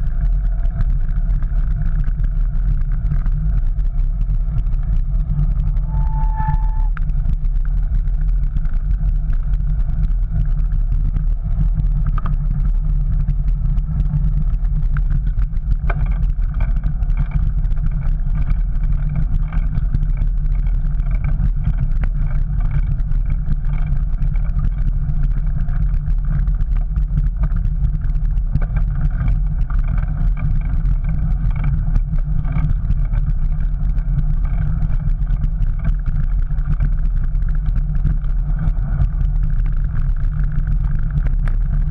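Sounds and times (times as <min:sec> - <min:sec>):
bicycle tyre noise on paving: 0:00.0 - 0:41.9.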